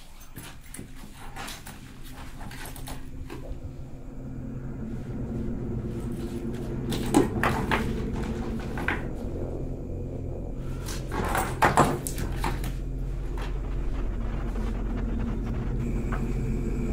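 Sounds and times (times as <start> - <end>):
low hum of held tones: 0.0 - 16.9.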